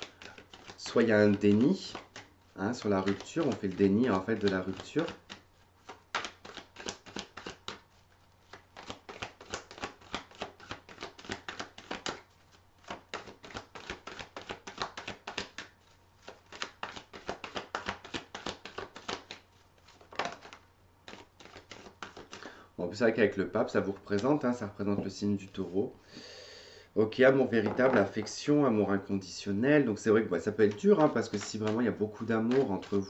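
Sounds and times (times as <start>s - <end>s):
cards shuffled by hand: 0.0s - 22.5s, 23.6s - 25.8s, 27.4s - 28.4s, 29.9s - 33.0s.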